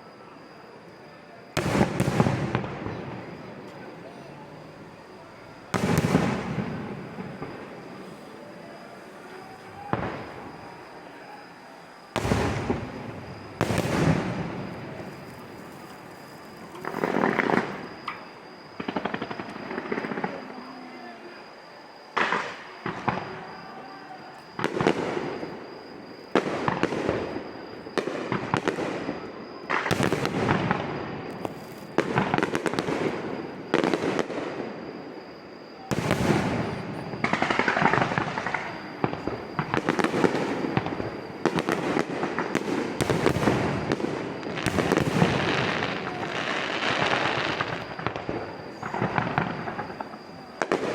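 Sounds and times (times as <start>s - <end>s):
fireworks bursting: 0.0s - 50.9s
fireworks crackle: 0.0s - 50.9s.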